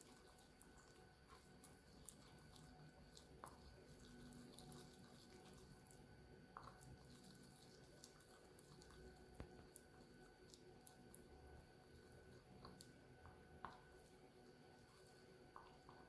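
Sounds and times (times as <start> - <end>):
slime squishing: 0.0 - 16.0.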